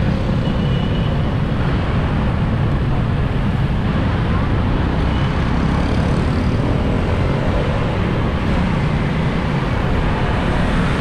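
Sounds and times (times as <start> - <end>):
dense motorbike traffic: 0.0 - 11.0.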